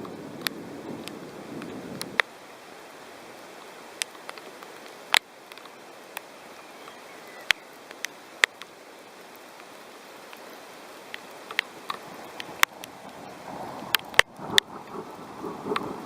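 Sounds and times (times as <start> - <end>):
rain hissing: 0.0 - 16.0
raindrops ticking on hard surface: 0.0 - 16.0.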